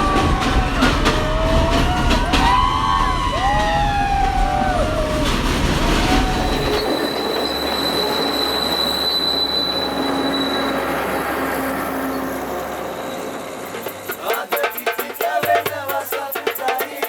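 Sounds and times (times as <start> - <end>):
heavy train rumble: 0.0 - 14.3
high whine and rail noise: 0.0 - 14.4
train wheels squealing: 0.0 - 15.3.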